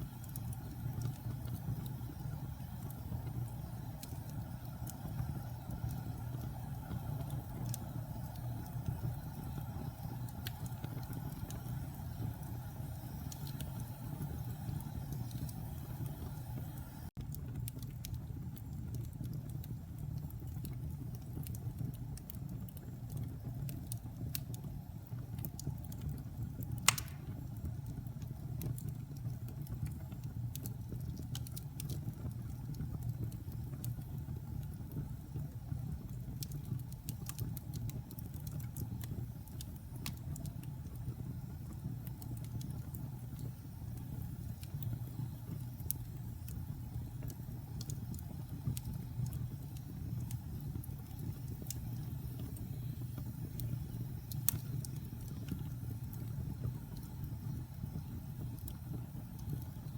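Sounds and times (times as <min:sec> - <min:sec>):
fire crackles and pops: 0:00.0 - 0:59.9
fire rumbling in fireplace: 0:00.0 - 0:59.9.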